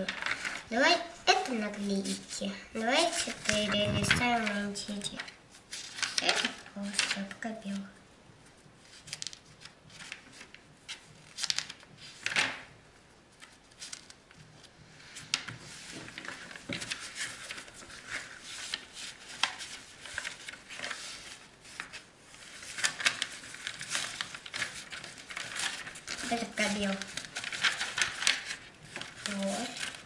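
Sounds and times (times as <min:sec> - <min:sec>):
paper pages rustling: 0:00.0 - 0:30.0.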